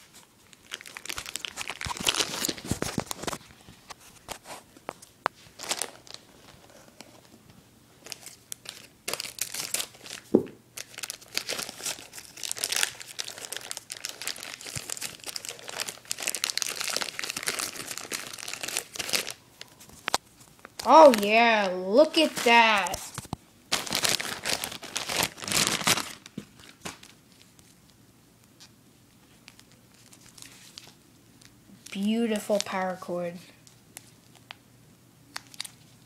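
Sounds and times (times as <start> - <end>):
plastic bag crinkling and tearing: 0.0 - 3.5, 5.4 - 7.3, 8.0 - 27.7, 29.3 - 33.0, 35.3 - 36.0.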